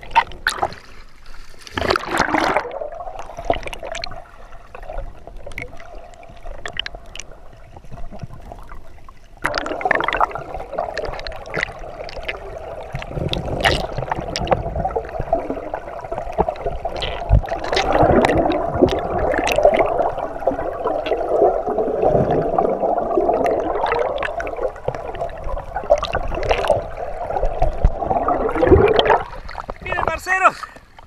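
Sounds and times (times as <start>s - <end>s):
underwater rushing water: 0.0s - 31.0s.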